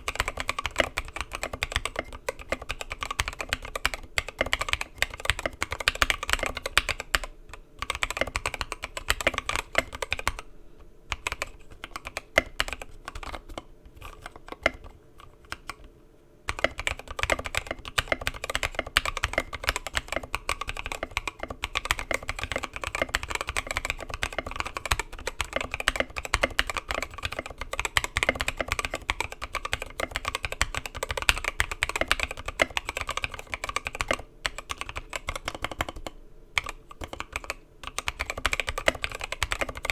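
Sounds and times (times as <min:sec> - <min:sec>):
mechanical keyboard typing: 0:00.0 - 0:10.5, 0:11.1 - 0:15.9, 0:16.5 - 0:39.9.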